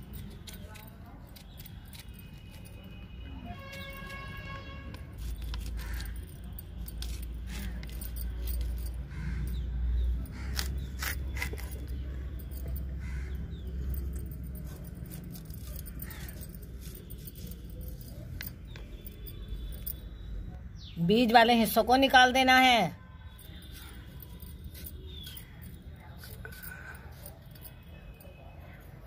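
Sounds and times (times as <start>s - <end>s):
blade scraping gourd: 0.0s - 19.9s, 23.5s - 27.8s.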